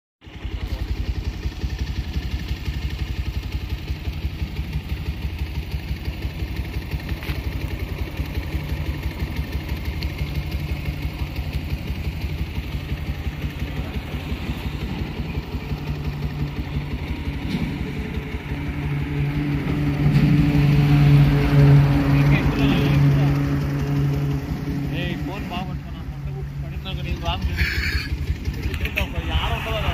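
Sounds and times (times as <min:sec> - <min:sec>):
engine idling: 0:00.2 - 0:29.9.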